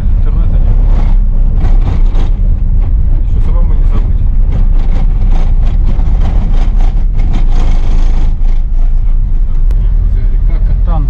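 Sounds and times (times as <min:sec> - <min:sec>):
vehicle engine and road rumble: 0:00.0 - 0:11.0
short knocks and rattles: 0:00.6 - 0:09.6.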